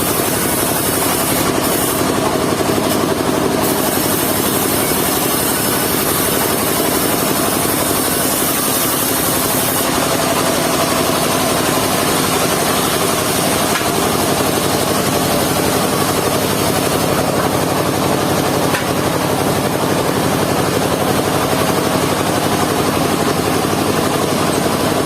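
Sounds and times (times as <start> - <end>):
sawmill engine drone with hiss: 0.0 - 25.0.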